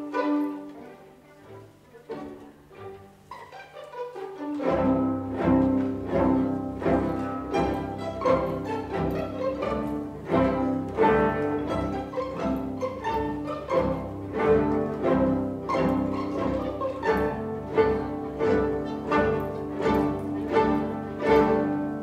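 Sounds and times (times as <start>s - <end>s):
string orchestra playing: 0.0s - 22.0s.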